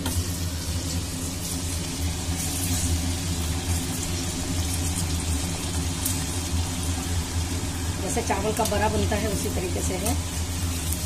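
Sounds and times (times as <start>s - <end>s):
dough deep-frying in hot oil: 0.0s - 11.0s
steady low hum: 0.0s - 11.0s.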